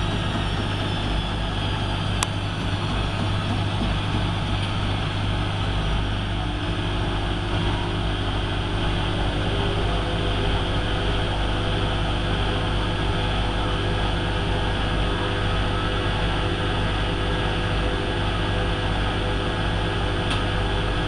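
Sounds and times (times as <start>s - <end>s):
washing machine motor hum: 0.0s - 21.0s.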